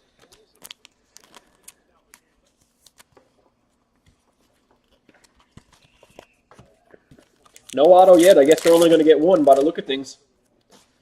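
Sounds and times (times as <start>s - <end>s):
trading cards clicking and rustling: 0.0s - 9.8s.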